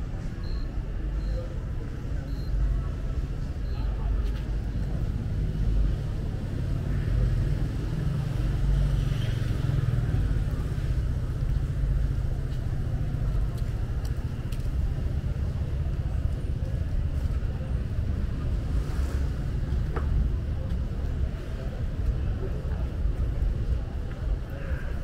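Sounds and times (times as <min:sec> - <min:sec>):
faint street ambience: 0:00.0 - 0:25.0.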